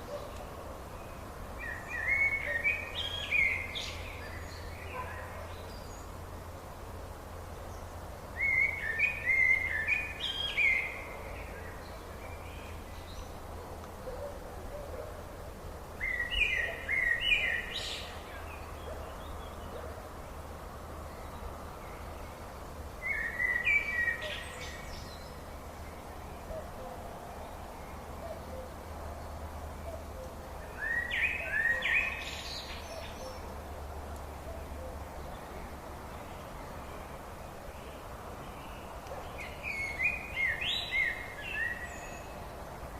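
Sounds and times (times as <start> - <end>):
songbird singing: 0.0 - 42.9
steady background hiss: 0.0 - 42.9.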